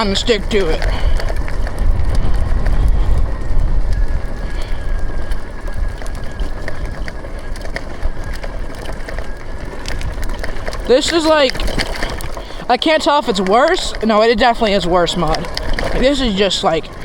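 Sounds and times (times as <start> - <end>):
electric motor whine: 0.0 - 17.0
wind rumble on microphone: 0.0 - 17.0.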